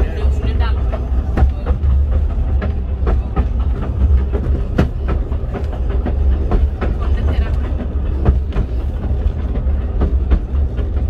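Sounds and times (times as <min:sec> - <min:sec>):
railway carriage rumbling: 0:00.0 - 0:11.0
wheels clicking on rails: 0:00.0 - 0:11.0.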